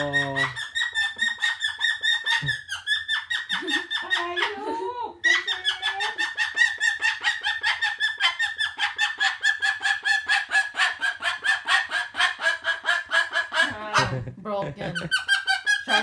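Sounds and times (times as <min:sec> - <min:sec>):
cockatoo clucking calls: 0:00.0 - 0:14.2, 0:14.8 - 0:16.0.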